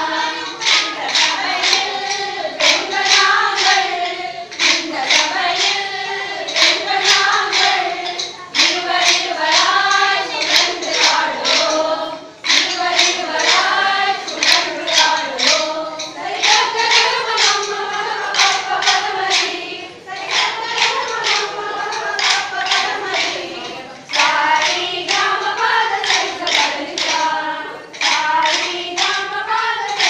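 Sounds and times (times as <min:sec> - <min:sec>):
group of voices singing: 0:00.0 - 0:30.0
hand claps: 0:00.0 - 0:30.0.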